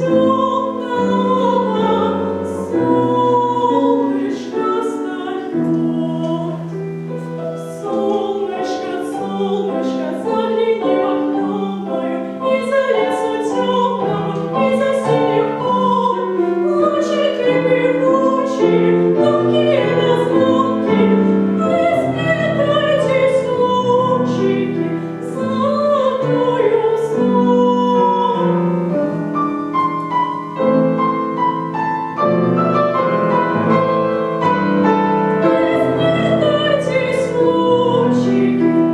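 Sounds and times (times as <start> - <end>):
woman singing classically: 0.0 - 29.2, 34.3 - 38.9
piano: 0.0 - 38.9.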